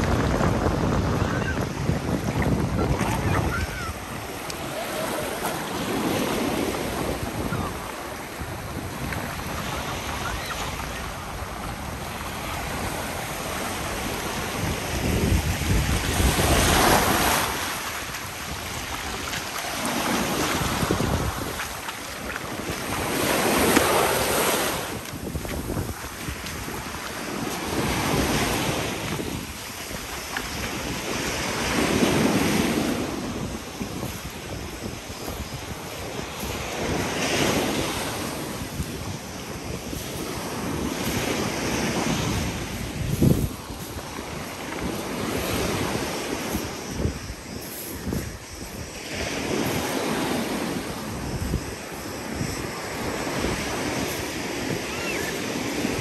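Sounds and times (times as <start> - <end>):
sea waves breaking: 0.0 - 56.0
wind buffeting microphone: 0.0 - 56.0.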